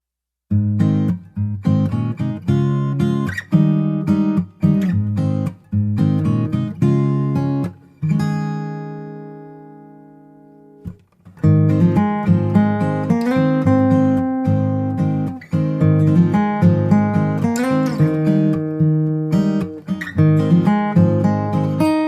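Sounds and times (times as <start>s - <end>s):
strummed acoustic guitar: 0.5s - 22.0s.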